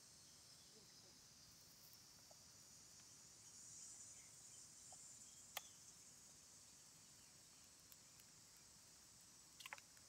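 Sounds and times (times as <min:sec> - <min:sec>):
faint high-pitched hiss: 0:00.0 - 0:10.0.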